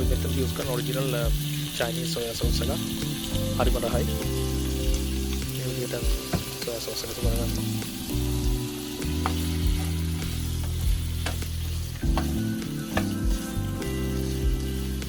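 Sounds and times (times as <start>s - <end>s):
chicken sizzling in a frying pan: 0.0s - 15.0s
low background music: 0.0s - 15.0s.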